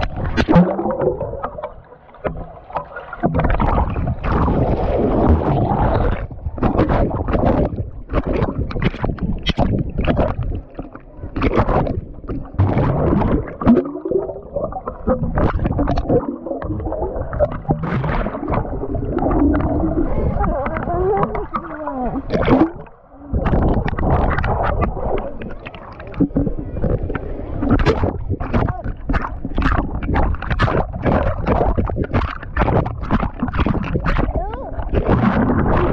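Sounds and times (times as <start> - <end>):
water splashing and sloshing: 0.0 - 35.9.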